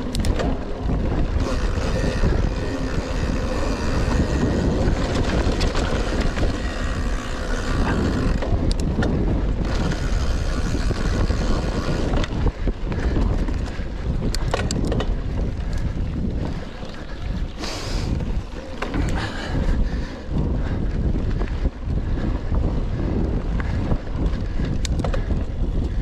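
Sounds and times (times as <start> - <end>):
bike clicks and rattles: 0.0 - 26.0
bike tyres rumbling: 0.0 - 26.0
wind rush on microphone: 0.0 - 26.0.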